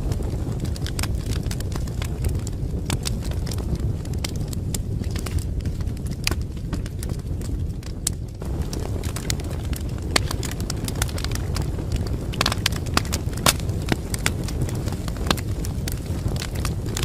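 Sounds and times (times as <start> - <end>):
fire popping and snapping: 0.0 - 17.0
flames rumbling: 0.0 - 17.0.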